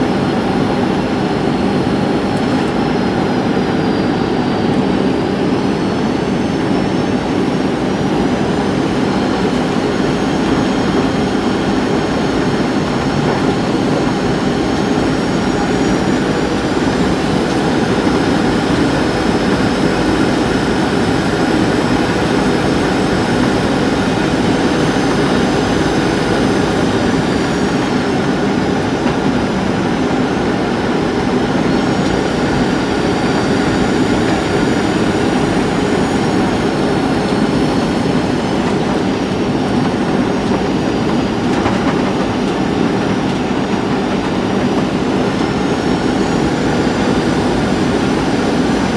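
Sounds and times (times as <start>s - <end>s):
airflow rush in cabin: 0.0s - 48.9s
jet engine whine: 0.0s - 48.9s.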